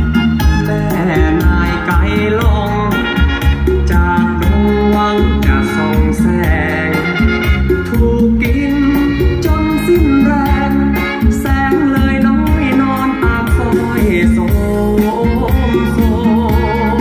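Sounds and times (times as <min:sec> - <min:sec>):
song with heavy bass: 0:00.0 - 0:17.0.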